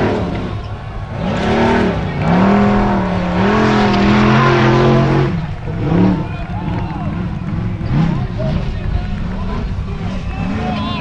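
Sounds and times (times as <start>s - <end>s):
buggy engine at high revs: 0.0s - 11.0s.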